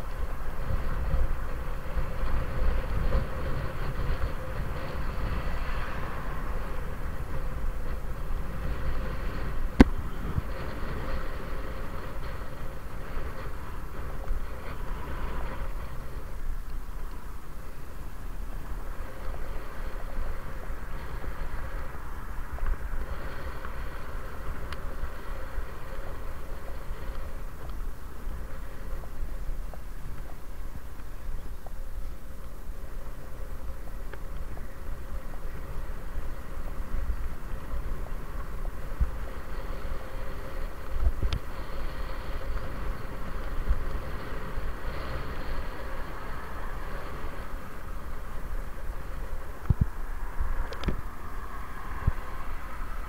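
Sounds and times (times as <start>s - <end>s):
bicycle tyre and road noise: 0.0s - 53.0s
wind rumbling on microphone: 0.0s - 53.0s.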